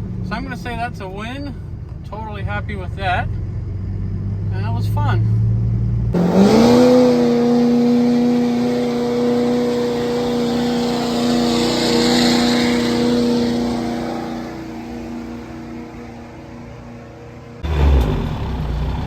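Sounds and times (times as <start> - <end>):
truck engine at high revs: 2.8 - 19.0.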